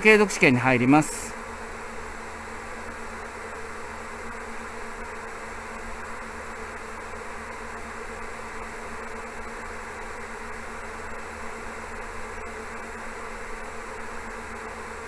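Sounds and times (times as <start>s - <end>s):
droning hum with faint buzz: 0.0s - 15.0s.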